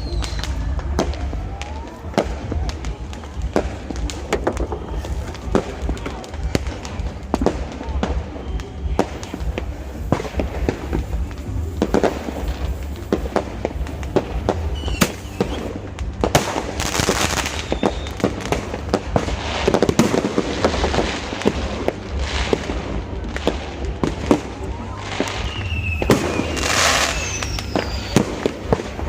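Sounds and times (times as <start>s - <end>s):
fireworks bangs and pops: 0.0s - 29.0s
fireworks crackling: 0.0s - 29.0s.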